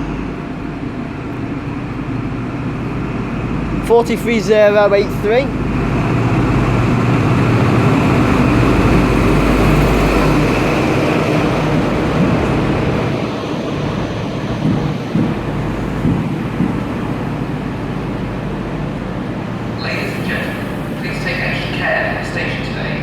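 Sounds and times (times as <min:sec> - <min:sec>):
train coaches knocking: 0:00.0 - 0:23.0
train diesel engine running: 0:00.0 - 0:23.0.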